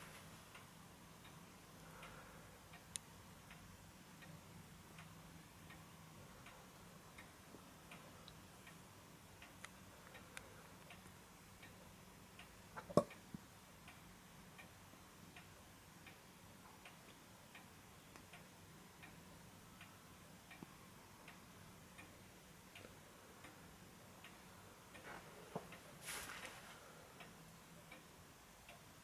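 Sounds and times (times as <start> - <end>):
wall clock ticking: 0.0 - 29.0.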